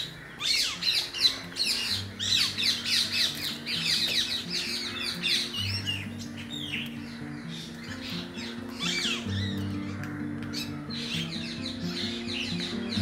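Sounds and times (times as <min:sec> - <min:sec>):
birds chirping and squawking: 0:00.0 - 0:13.0
background music with low notes: 0:00.4 - 0:13.0.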